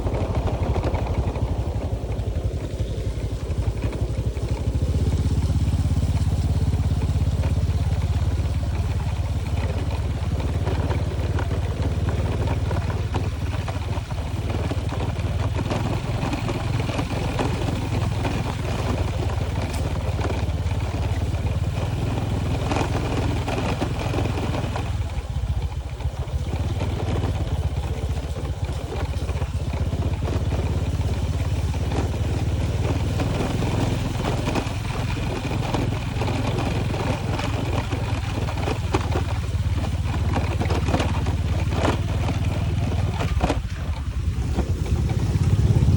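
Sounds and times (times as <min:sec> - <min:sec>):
road noise: 0:00.0 - 0:45.9
vehicle engine rumbling: 0:00.0 - 0:45.9.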